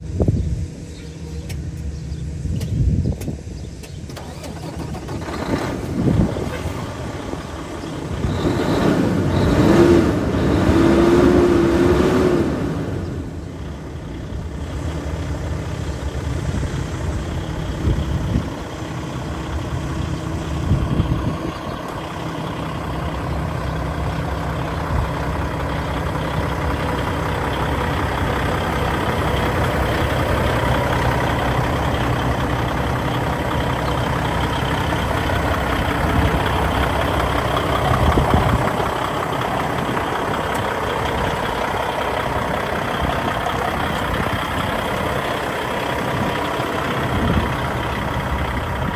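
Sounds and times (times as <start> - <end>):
diesel truck engine idling: 0.0 - 48.9.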